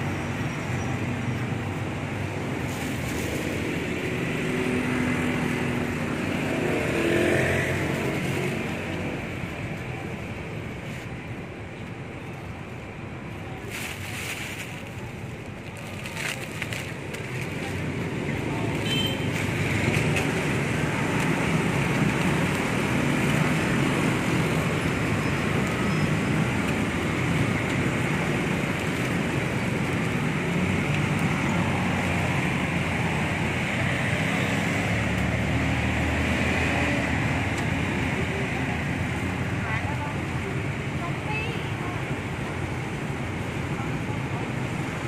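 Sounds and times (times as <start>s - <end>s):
rumble of passing vehicles: 0.0s - 45.0s.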